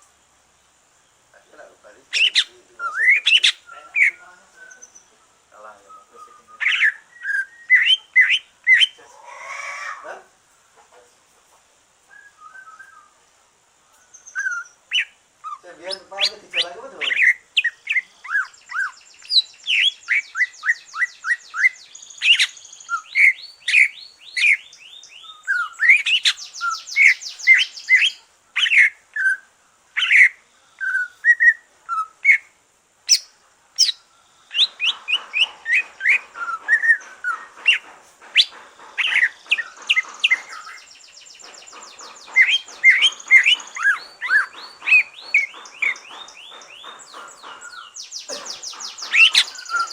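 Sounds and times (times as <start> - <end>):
faint raspy noise: 0.0 - 49.9
bird singing whistles and trills: 2.2 - 9.0, 12.1 - 13.2, 14.1 - 15.6, 16.2 - 32.4, 33.1 - 37.8, 38.4 - 49.9.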